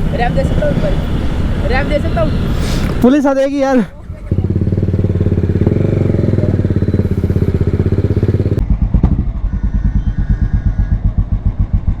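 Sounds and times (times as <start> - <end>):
motorcycle engine with loud exhaust: 0.0 - 12.0.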